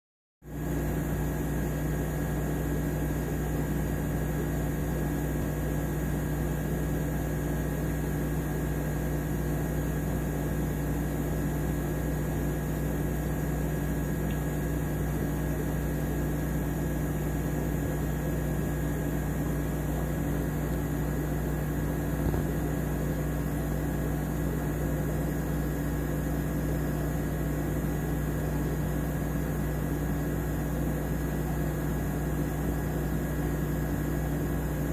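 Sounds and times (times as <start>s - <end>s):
aquarium filter humming: 0.5s - 34.9s.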